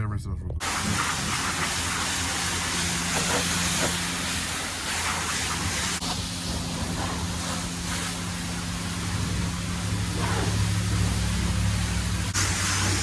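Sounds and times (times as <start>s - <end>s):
high-pressure water spraying: 0.6s - 13.0s.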